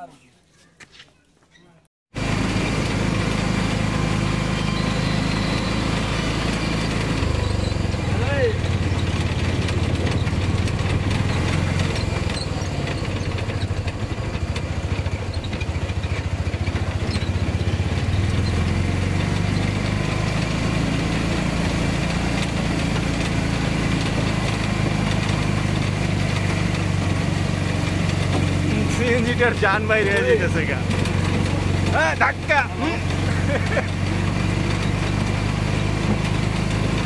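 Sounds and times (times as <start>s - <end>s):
tyres on brick-paved road: 0.0s - 37.0s
small vehicle engine running: 2.2s - 37.0s.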